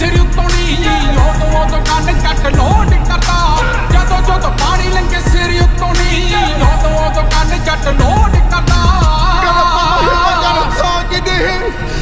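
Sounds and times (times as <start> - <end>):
song with held vocal melody: 0.0 - 12.0.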